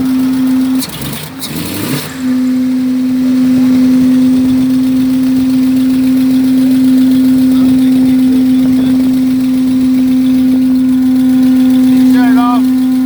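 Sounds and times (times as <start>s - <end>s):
engine running with steady drone: 0.0s - 13.0s.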